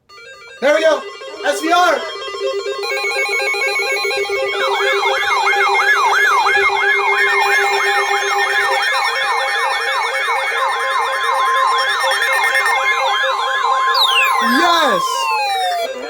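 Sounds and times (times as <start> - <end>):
electronic siren wailing: 0.0 - 16.0
steady alarm tones: 0.0 - 16.0.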